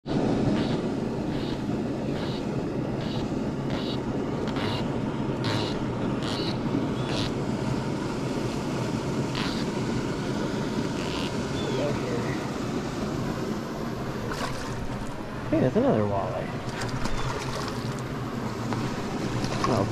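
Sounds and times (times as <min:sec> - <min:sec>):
flowing river water: 0:00.2 - 0:19.9.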